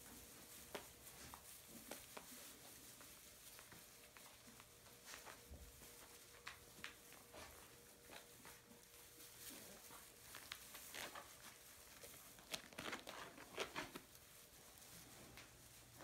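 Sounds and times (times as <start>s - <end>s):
straw rustling under paws: 0.0s - 16.0s.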